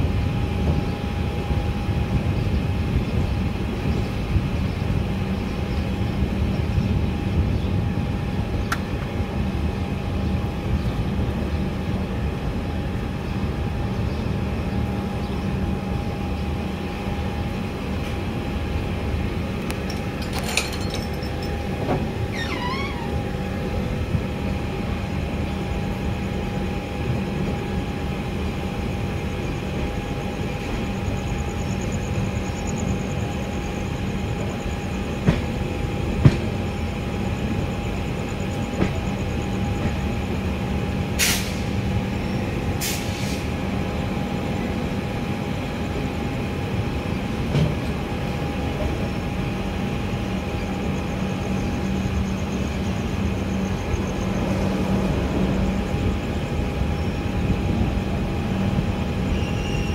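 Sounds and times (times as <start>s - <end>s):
passenger train rumbling: 0.0s - 59.9s.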